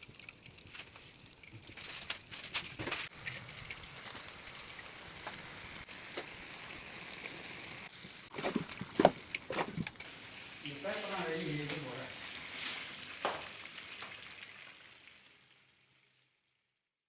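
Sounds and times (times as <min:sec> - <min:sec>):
food sizzling in a wok: 0:02.8 - 0:16.8.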